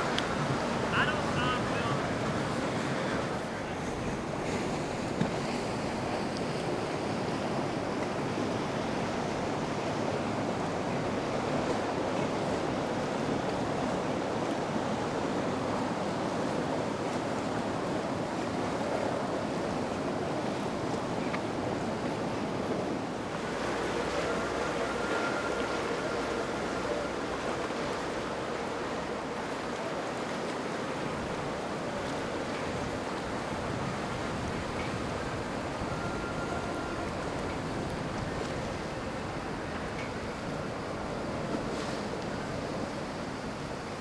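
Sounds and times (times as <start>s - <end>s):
water rushing: 0.0s - 44.0s
wind: 0.0s - 44.0s.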